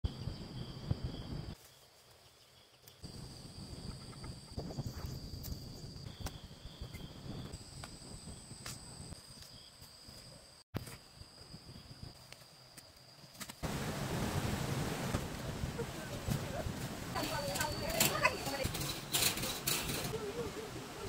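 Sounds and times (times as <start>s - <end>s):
insects chirring: 0.1s - 13.9s, 14.5s - 20.2s.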